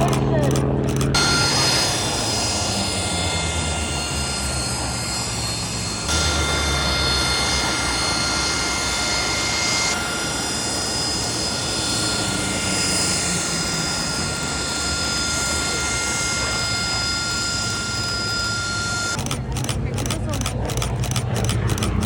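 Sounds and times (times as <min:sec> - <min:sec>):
aircraft engine roaring: 0:00.0 - 0:22.0
steady engine whine: 0:00.0 - 0:22.0.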